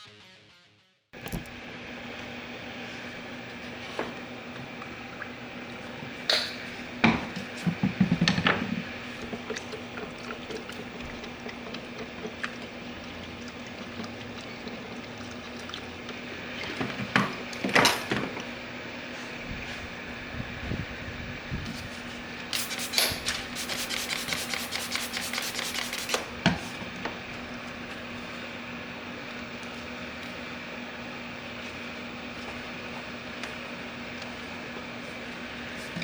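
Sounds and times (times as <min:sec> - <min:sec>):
steady background hum: 0:01.2 - 0:36.0.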